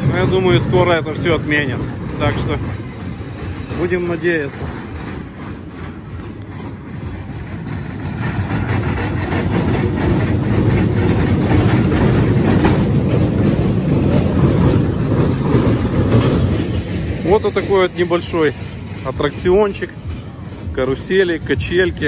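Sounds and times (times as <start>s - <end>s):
coaster cars rumbling on rails: 0.0s - 22.0s.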